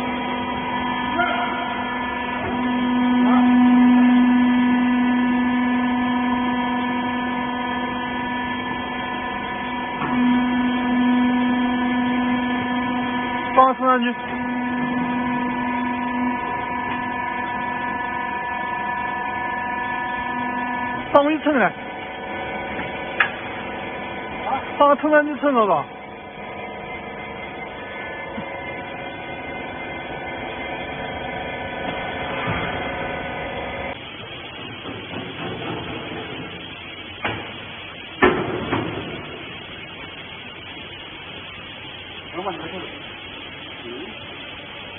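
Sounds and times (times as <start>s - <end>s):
hydraulic power unit humming: 0.0s - 44.9s.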